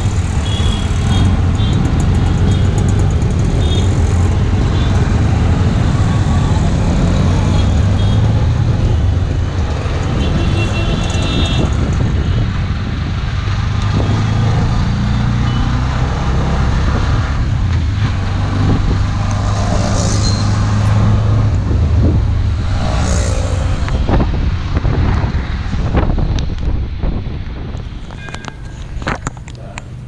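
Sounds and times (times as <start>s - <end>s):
road and traffic noise: 0.0s - 30.0s.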